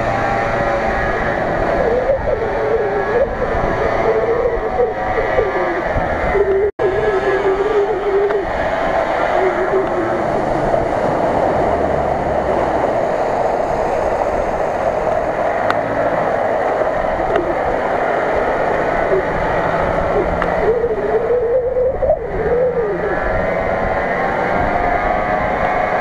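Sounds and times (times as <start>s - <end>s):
engine running under load: 0.0s - 26.0s.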